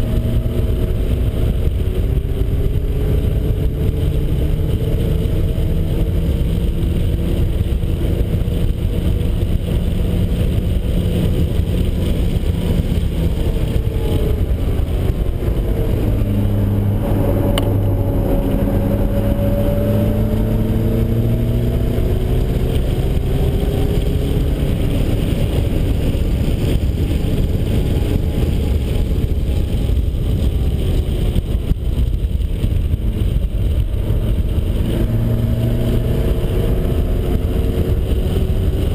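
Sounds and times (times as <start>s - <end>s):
car engine running hard: 0.0s - 38.9s
road and wind noise: 0.0s - 38.9s.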